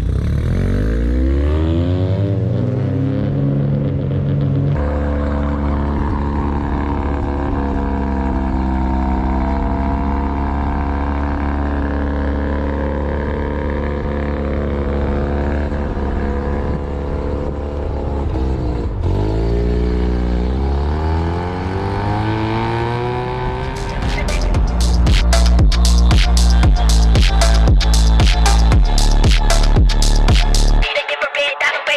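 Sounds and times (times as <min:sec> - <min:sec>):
rotary engine revving: 0:00.0 - 0:30.8.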